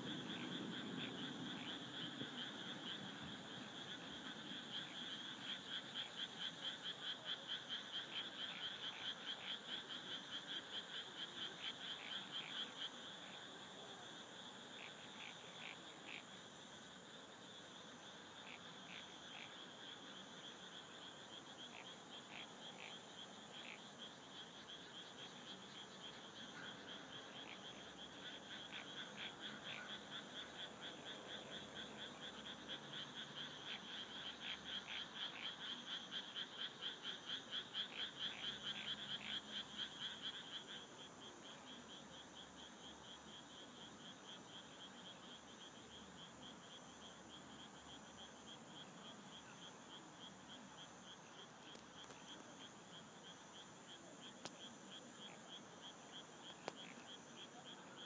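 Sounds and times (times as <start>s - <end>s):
frogs croaking: 0.0s - 58.0s
insects chorus: 0.0s - 58.0s.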